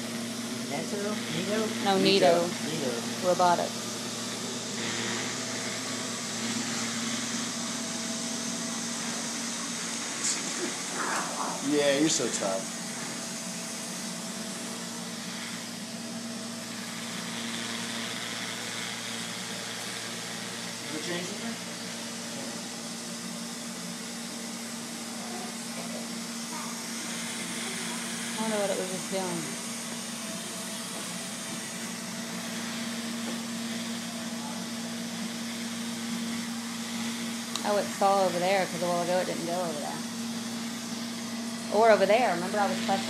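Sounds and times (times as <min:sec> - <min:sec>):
robot vacuum running: 0:00.0 - 0:43.0.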